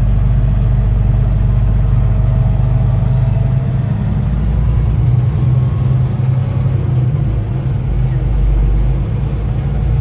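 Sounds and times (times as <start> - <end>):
truck diesel engine and road drone: 0.0 - 10.0.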